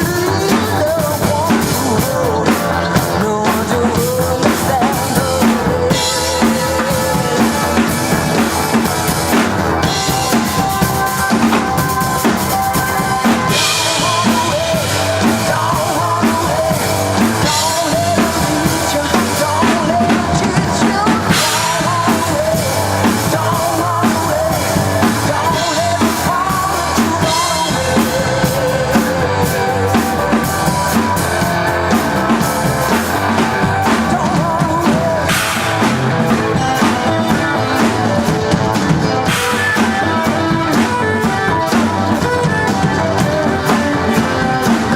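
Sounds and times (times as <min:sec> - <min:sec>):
drum kit beat: 0:00.0 - 0:44.9
rock band playing: 0:00.0 - 0:44.9.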